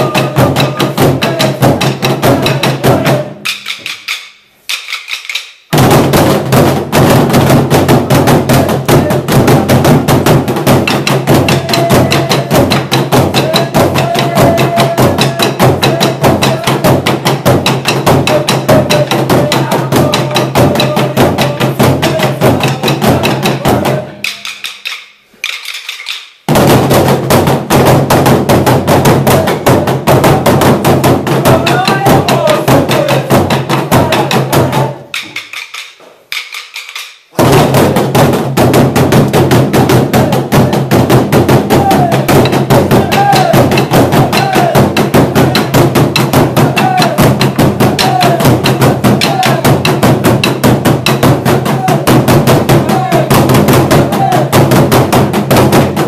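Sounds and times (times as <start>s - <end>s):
ensemble beating large drums: 0.0s - 3.9s, 5.7s - 24.5s, 26.5s - 35.4s, 37.4s - 56.0s.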